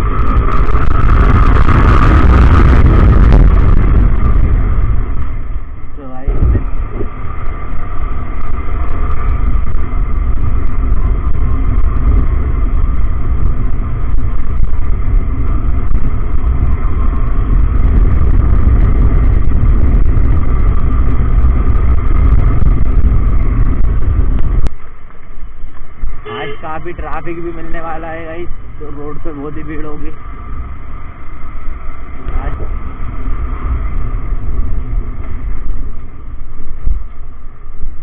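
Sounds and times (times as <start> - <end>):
motorcycle engine running: 0.0 - 38.0
wind rumble on microphone: 0.0 - 38.0.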